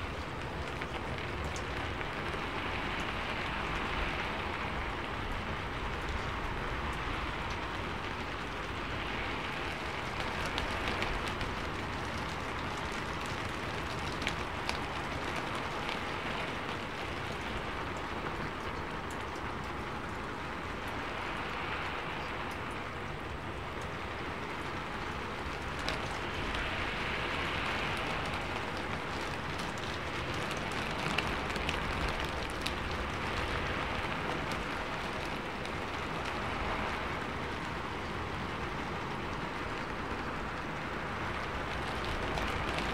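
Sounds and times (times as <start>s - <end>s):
steady rain: 0.0s - 42.9s
ticks of raindrops: 0.0s - 42.9s.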